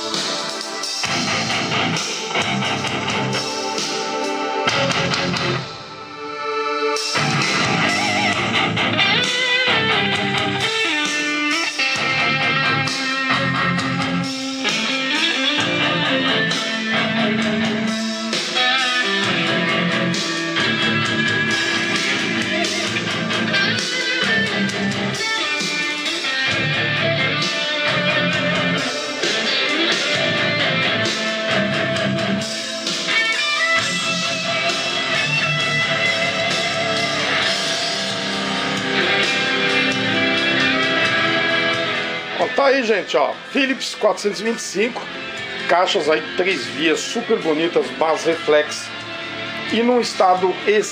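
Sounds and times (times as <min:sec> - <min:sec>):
guitar music over loudspeakers: 0:00.0 - 0:50.9.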